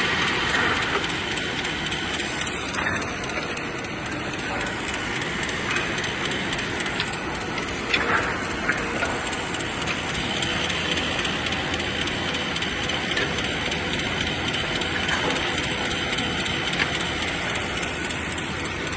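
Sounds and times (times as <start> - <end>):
clatter of knocks and clicks: 0.0 - 18.9.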